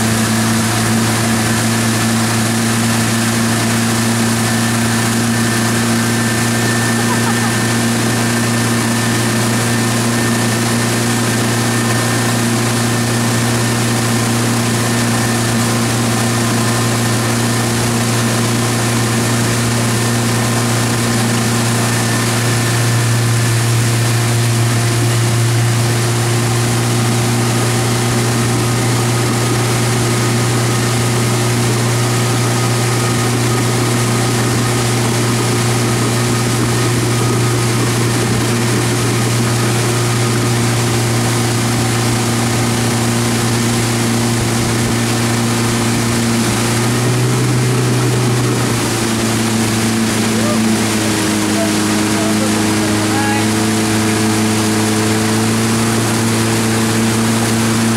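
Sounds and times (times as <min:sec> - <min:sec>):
motorboat engine hum: 0:00.0 - 0:57.9
rushing water and wind: 0:00.0 - 0:57.9.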